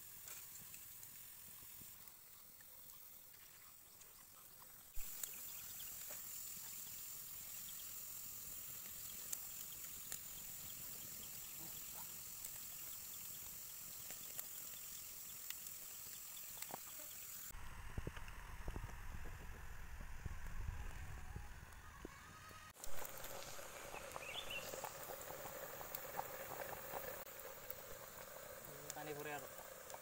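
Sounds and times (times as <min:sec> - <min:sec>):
wood fire crackling: 0:00.0 - 0:02.8, 0:05.0 - 0:21.0, 0:22.8 - 0:30.0
insect chorus: 0:00.0 - 0:17.5, 0:22.8 - 0:30.0.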